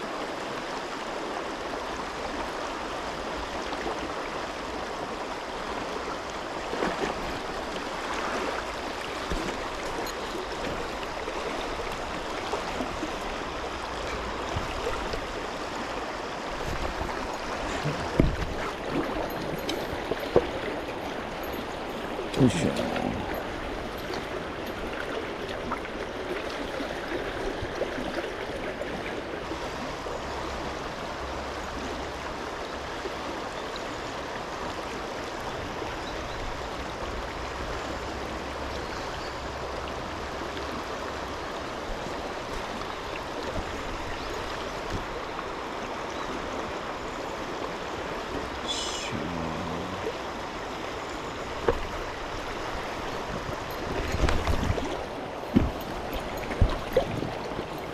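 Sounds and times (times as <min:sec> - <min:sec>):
river current rushing: 0:00.0 - 0:57.9.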